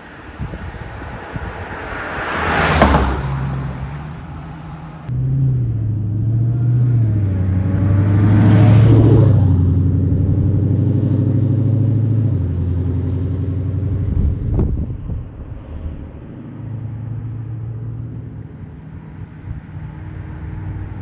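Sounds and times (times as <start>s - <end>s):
car engine driving by: 0.4s - 21.0s.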